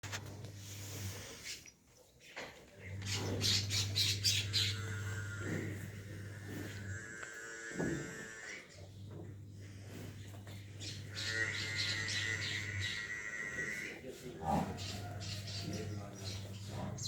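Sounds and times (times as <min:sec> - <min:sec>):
farmyard animal calls: 0:00.1 - 0:17.0
steady low hum: 0:02.7 - 0:17.0.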